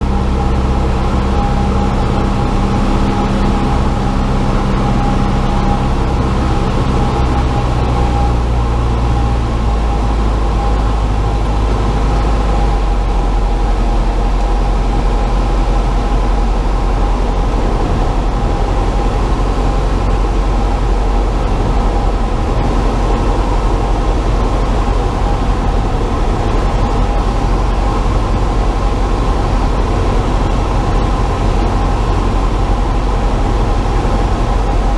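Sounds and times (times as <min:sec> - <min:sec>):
airflow: 0:00.0 - 0:34.9
airplane engine and propeller: 0:00.0 - 0:34.9
steady high tone: 0:00.0 - 0:34.9.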